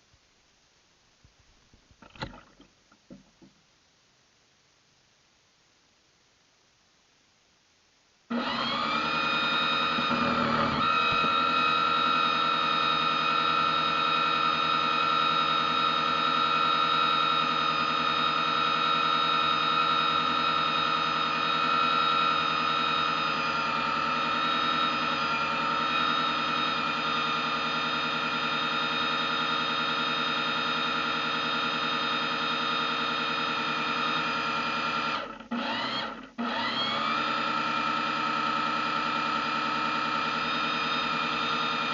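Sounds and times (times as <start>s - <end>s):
rc boat motor whining: 8.3s - 41.9s.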